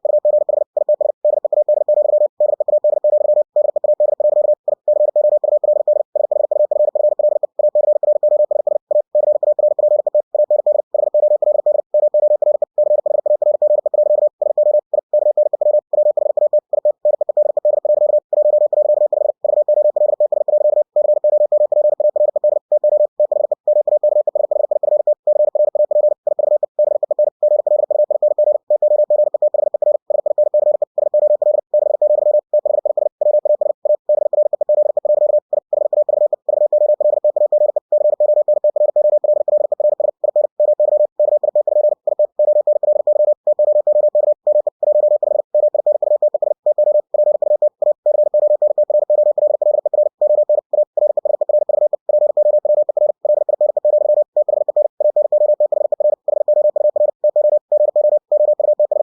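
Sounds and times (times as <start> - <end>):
morse code tone: 0.0 - 59.0.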